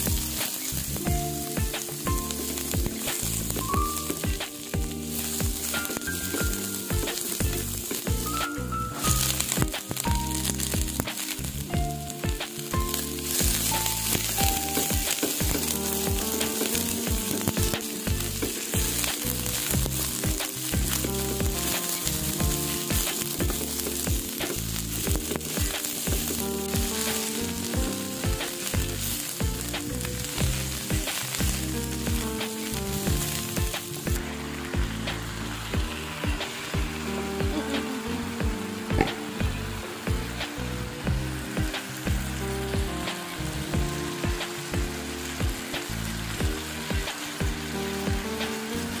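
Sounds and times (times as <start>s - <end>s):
background music: 0.0s - 49.0s
food sizzling in hot oil: 0.0s - 49.0s.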